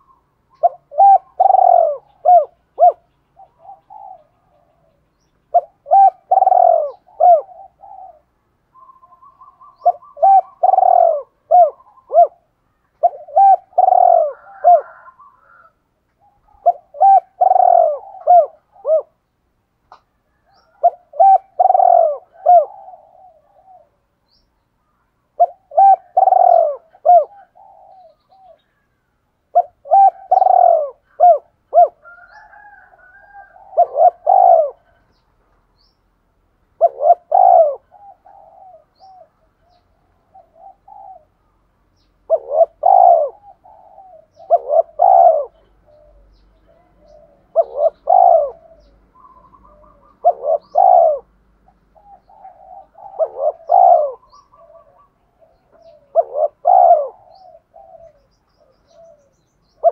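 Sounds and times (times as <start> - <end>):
dove cooing: 0.0 - 19.3, 19.9 - 24.4, 25.0 - 35.2, 36.7 - 59.9.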